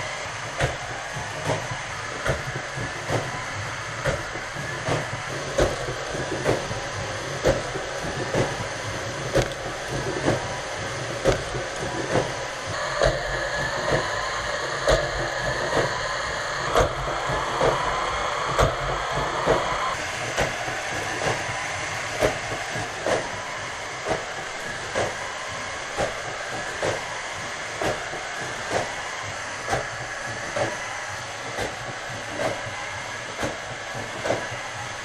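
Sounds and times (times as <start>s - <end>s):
high whine: 0.0s - 31.6s.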